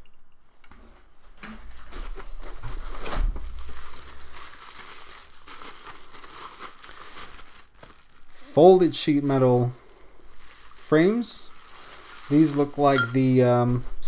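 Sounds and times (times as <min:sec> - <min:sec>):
plastic packaging crinkling: 0:01.9 - 0:13.5.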